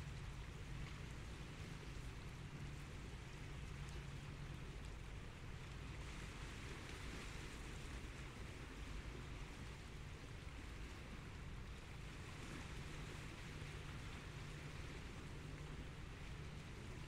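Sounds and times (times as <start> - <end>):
small waves washing on beach: 0.0 - 17.0.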